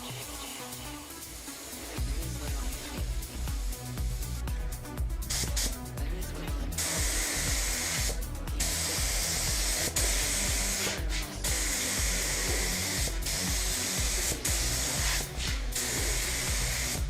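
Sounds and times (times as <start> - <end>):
background music: 0.0 - 17.0
paint spray gun hissing: 0.0 - 17.0.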